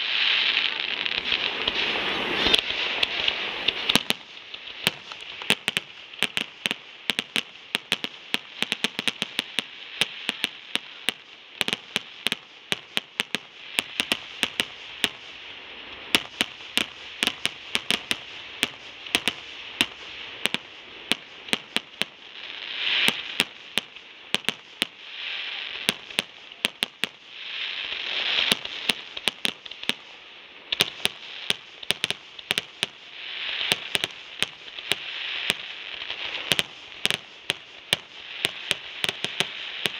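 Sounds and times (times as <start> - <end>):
fireworks bursting: 0.0 - 39.9
steady hiss: 0.0 - 39.9.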